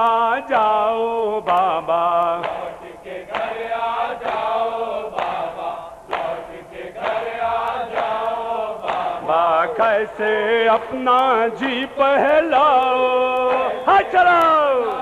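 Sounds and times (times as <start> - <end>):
men chanting a lament: 0.0 - 15.0
rhythmic chest-beating: 0.0 - 15.0.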